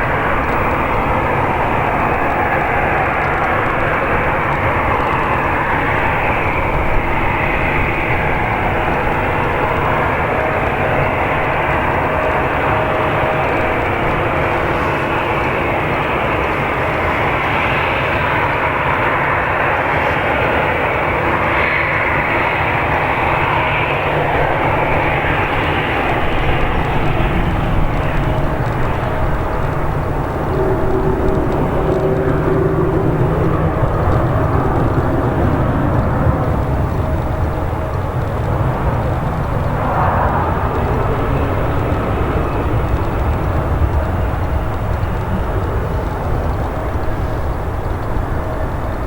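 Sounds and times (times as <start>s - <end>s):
faint steady tones: 0.0s - 49.0s
jet engines roaring: 0.0s - 49.0s.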